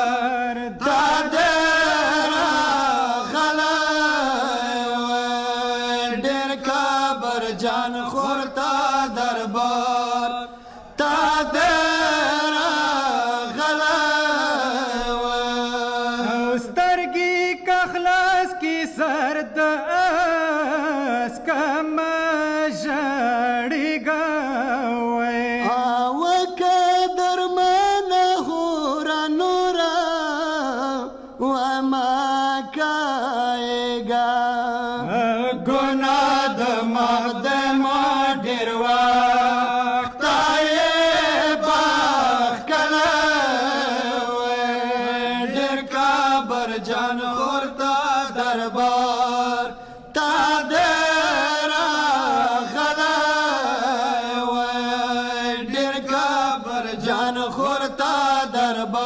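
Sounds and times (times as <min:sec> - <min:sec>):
men chanting a lament: 0:00.0 - 0:59.0.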